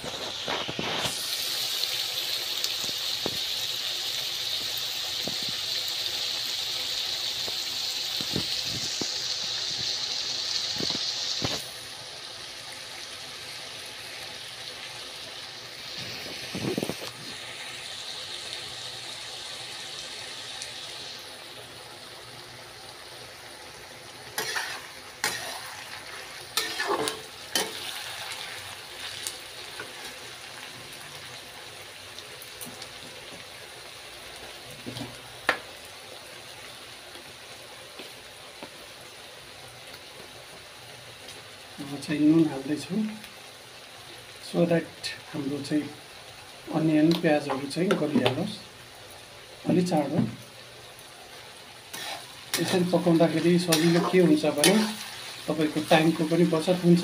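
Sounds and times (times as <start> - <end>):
onions sizzling in oil: 0.0 - 57.0.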